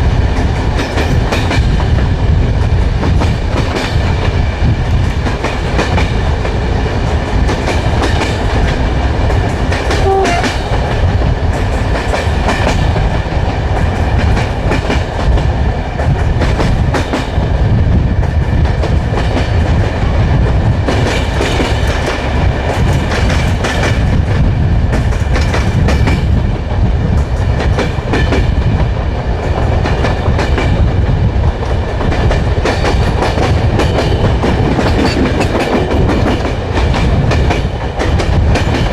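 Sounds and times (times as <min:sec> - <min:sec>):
rail joints clickety-clack: 0:00.0 - 0:38.9
train wheels rumbling on rails: 0:00.0 - 0:38.9.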